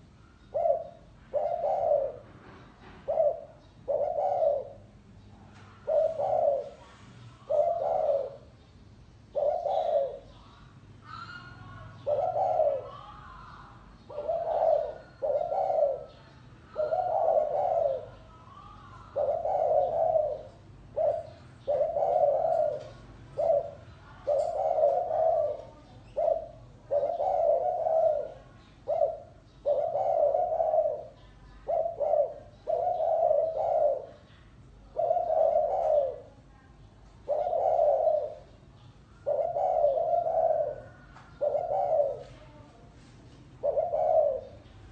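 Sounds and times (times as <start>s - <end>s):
dove cooing: 0.0s - 8.6s, 9.2s - 44.9s.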